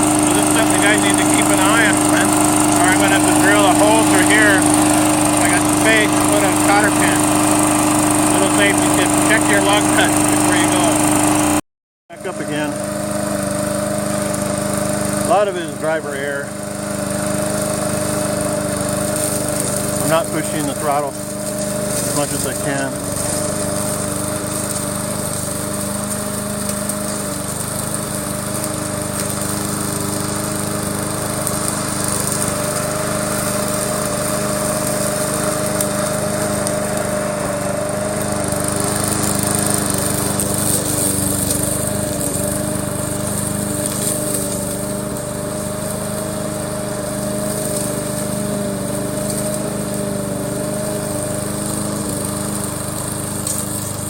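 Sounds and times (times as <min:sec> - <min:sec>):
mower motor hum: 0:00.0 - 0:54.0.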